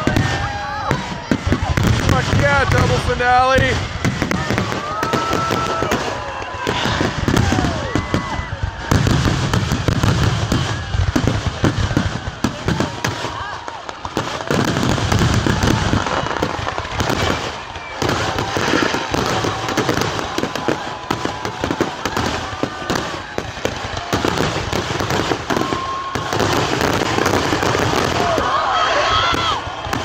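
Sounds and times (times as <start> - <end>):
fireworks bursting in rapid bangs: 0.0 - 30.0.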